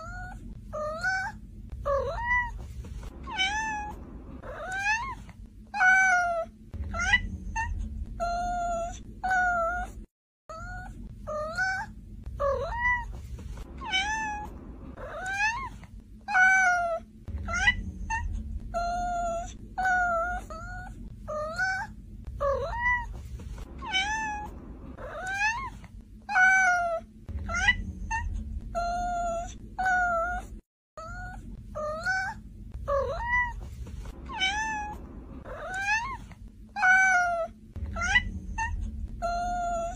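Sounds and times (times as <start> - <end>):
cat meowing: 0.0 - 2.6, 3.2 - 13.2, 13.8 - 23.2, 23.8 - 33.6, 34.2 - 39.9.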